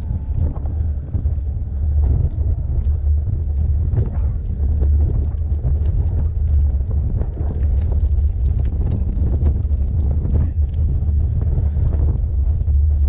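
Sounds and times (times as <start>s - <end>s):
bike tyres rolling on gravel: 0.0s - 13.0s
wind buffeting microphone: 0.0s - 13.0s.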